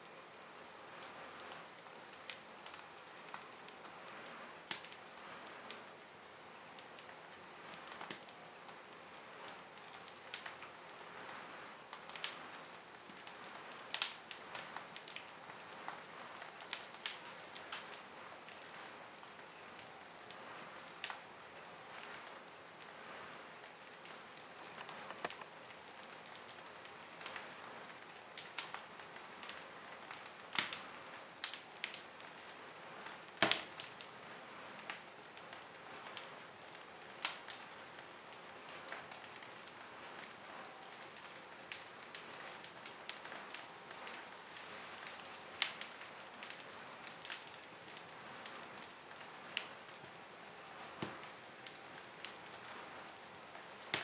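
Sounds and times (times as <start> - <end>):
wood fire crackling and popping: 0.1 - 54.0.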